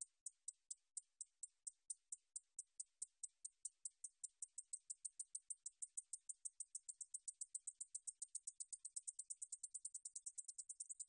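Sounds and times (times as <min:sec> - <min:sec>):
katydid ticking song: 0:00.0 - 0:11.0.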